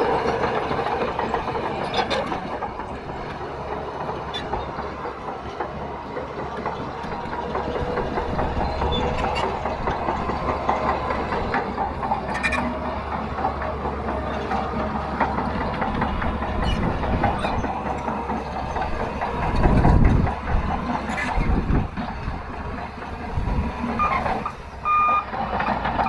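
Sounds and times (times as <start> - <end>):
bulldozer diesel engine: 0.0 - 26.0
steel tracks clanking: 0.0 - 26.0.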